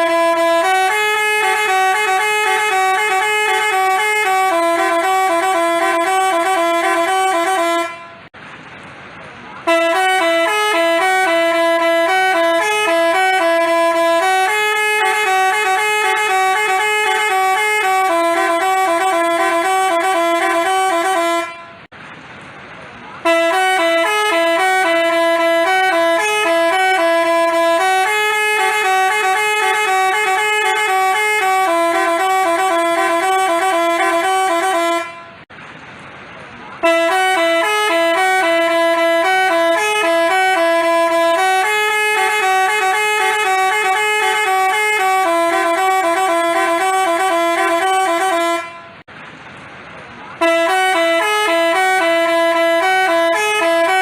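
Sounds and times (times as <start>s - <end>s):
musical bus horn tune: 0.0s - 8.4s, 9.6s - 21.9s, 23.2s - 35.5s, 36.8s - 49.1s, 50.4s - 54.0s.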